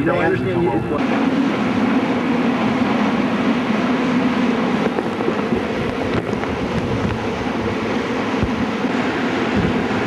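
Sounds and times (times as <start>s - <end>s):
steady low hum: 0.0s - 10.0s
strong wind buffeting microphone: 0.0s - 10.0s.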